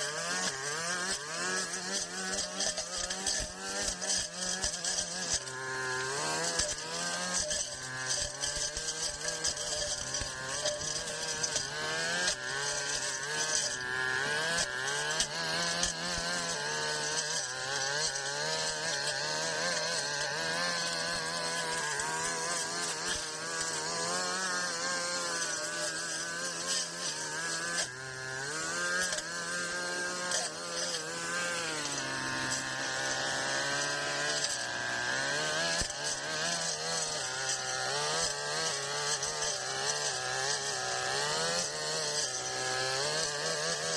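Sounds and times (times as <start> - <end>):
brush cutter engine mowing: 0.0 - 43.9.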